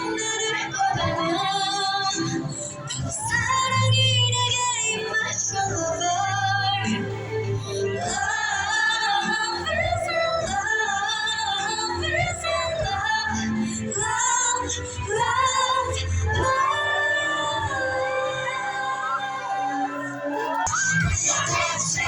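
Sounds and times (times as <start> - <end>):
backing music: 0.0 - 22.0
woman singing: 0.0 - 22.0.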